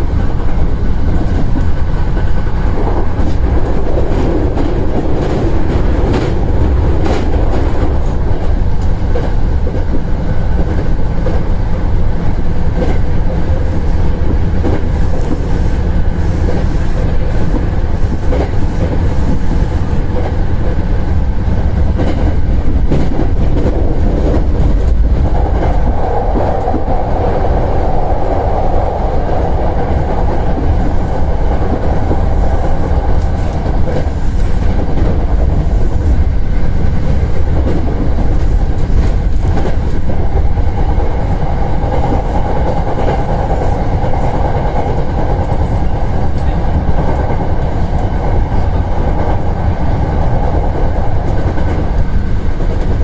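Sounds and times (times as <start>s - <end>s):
rail joint clicks: 0.0s - 53.0s
train wheels rumbling on rail: 0.0s - 53.0s.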